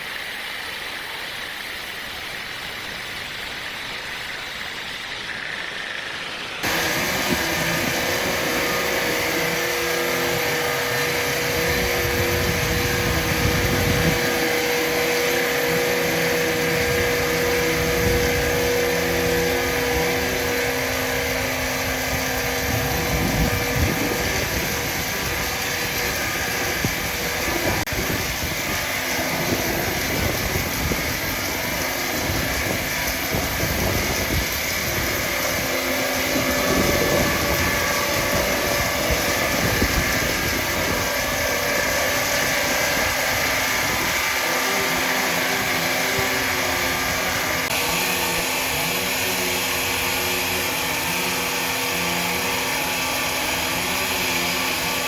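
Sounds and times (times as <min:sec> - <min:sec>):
heavy machinery whining: 0:00.2 - 0:55.0.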